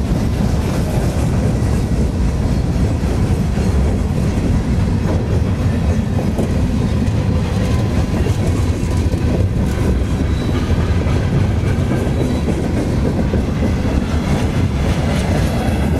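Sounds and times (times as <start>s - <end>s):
freight train rumble: 0.0s - 15.9s
wheels clacking over rail joints: 0.0s - 15.9s.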